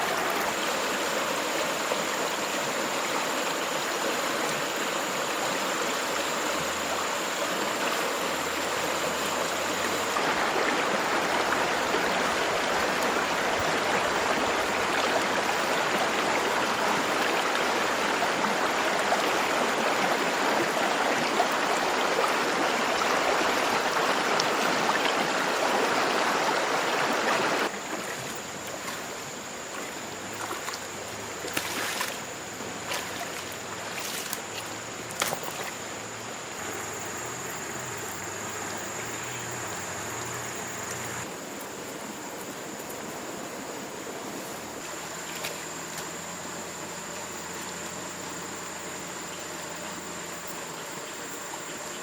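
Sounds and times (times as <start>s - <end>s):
running water: 0.0s - 52.0s.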